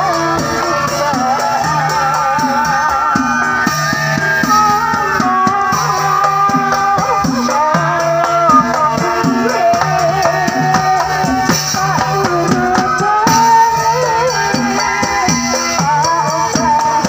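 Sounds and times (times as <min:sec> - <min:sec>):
drums and cymbal beat: 0:00.0 - 0:17.0.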